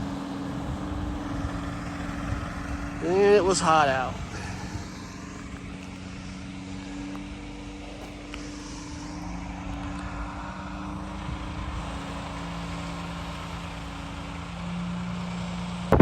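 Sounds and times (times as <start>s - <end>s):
distant engine humming: 0.0s - 16.0s.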